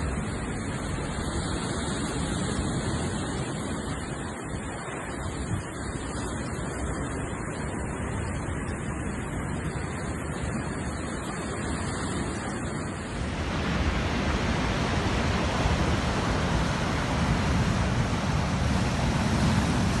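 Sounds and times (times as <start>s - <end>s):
strong wind: 0.0s - 20.0s
waves breaking: 0.0s - 20.0s.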